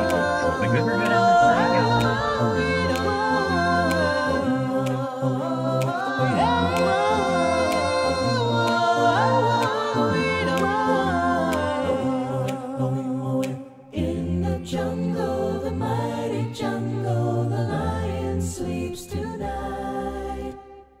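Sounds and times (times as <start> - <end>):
voices singing in harmony: 0.0 - 21.0.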